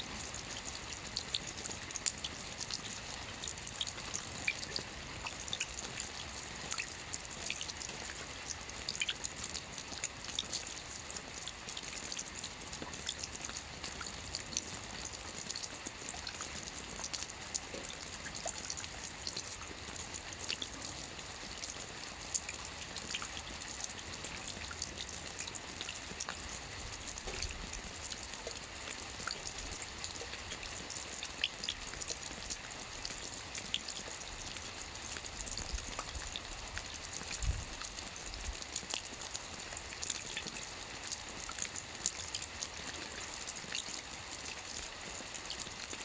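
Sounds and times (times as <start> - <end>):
rain drops pattering: 0.0 - 46.0
trickle of running water: 0.0 - 46.0.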